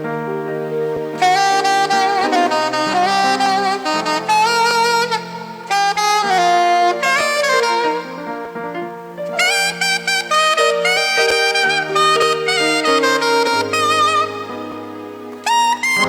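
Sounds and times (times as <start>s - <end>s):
saxophone melody: 0.0s - 16.0s
sustained keyboard chords: 0.0s - 16.0s.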